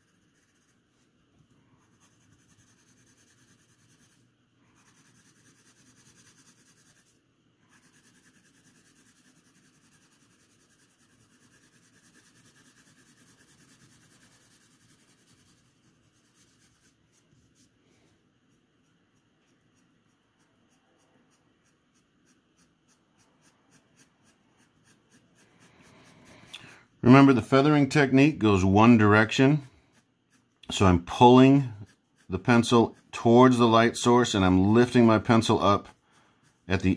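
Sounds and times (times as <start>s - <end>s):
pencil shading on paper: 0.0s - 36.9s.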